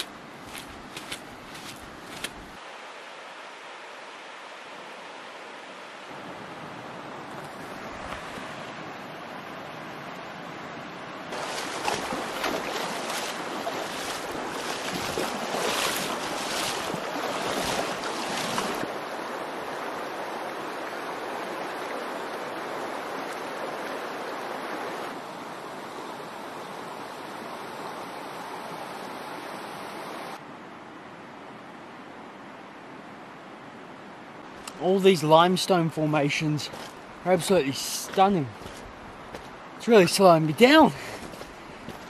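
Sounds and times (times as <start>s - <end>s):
river rushing over stones: 0.0s - 30.6s, 34.3s - 42.0s.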